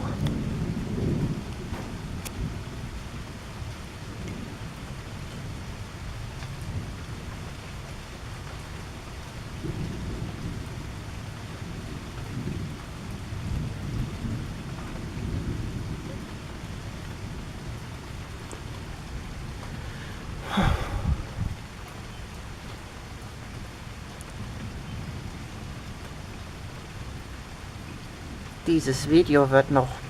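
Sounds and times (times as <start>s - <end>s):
rolling thunder: 0.0s - 7.6s, 9.4s - 29.2s
steady rain falling: 0.0s - 30.0s.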